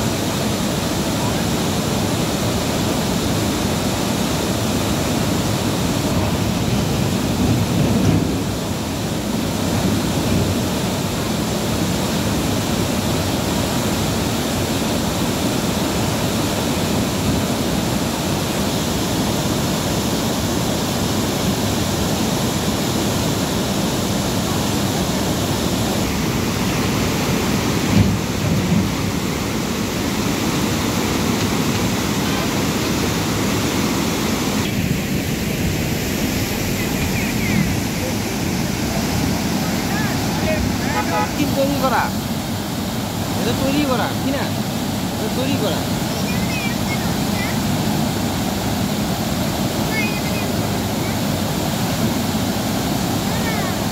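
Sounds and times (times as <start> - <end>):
roar of churning water: 0.0 - 53.9.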